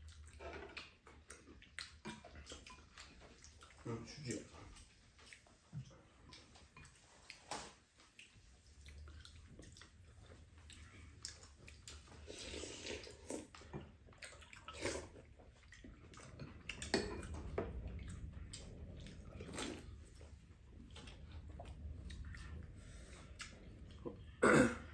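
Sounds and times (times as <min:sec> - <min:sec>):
people chewing and slurping: 0:00.0 - 0:24.9.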